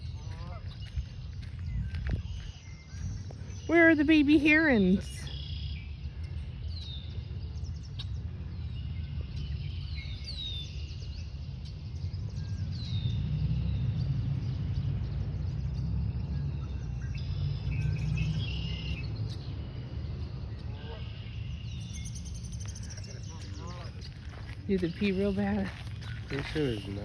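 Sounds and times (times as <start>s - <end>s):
birds chirping: 0.0s - 27.0s
low rumble: 4.7s - 27.0s.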